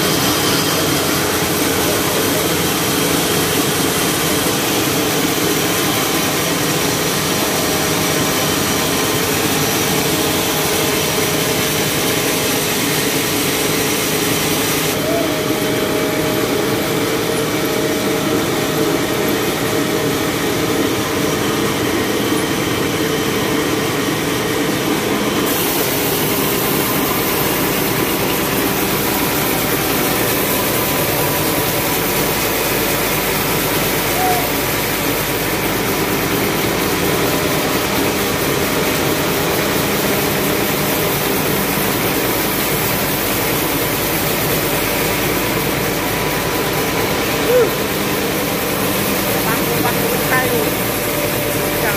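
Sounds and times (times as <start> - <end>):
band sawmill mechanical drone: 0.0 - 51.9.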